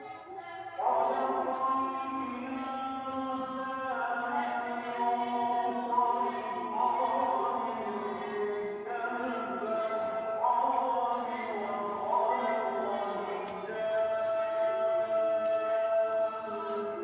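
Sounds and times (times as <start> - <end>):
chant-like background music: 0.0 - 17.0.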